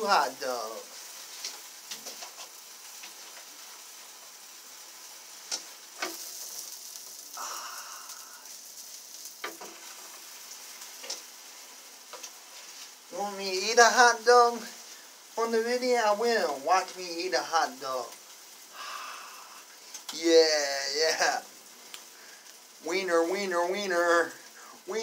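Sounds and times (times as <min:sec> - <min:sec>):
sausages sizzling on a grill: 0:00.0 - 0:25.0.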